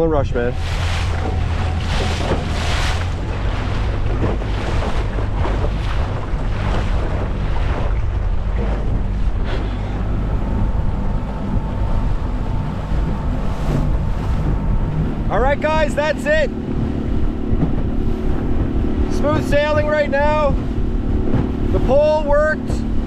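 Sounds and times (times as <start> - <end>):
steady low drone: 0.0 - 23.0
waves slapping against hull: 0.0 - 23.0
wind buffeting microphone: 0.0 - 23.0.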